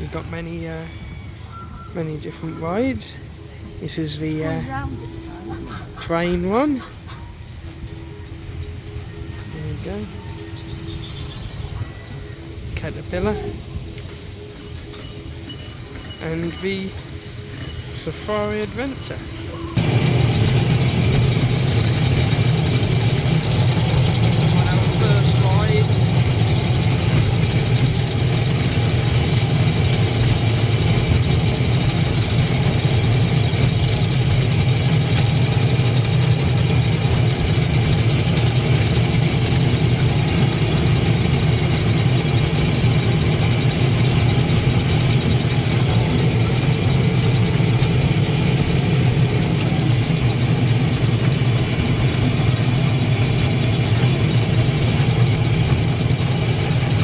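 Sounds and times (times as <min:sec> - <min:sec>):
ride vehicle motor droning: 0:00.0 - 0:57.0.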